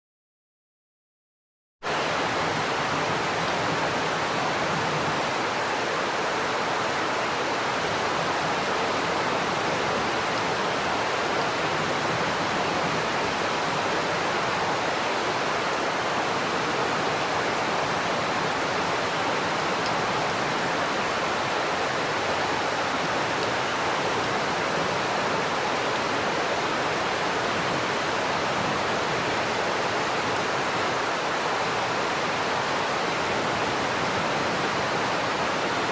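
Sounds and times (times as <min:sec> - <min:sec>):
heavy rain: 0:01.8 - 0:35.9.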